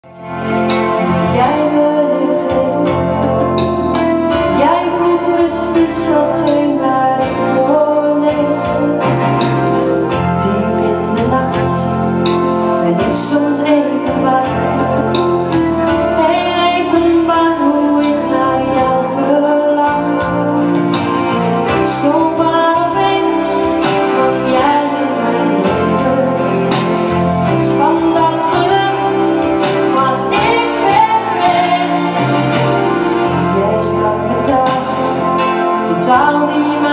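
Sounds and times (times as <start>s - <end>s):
woman singing into microphone: 0.0s - 36.9s
acoustic band accompaniment: 0.1s - 36.9s.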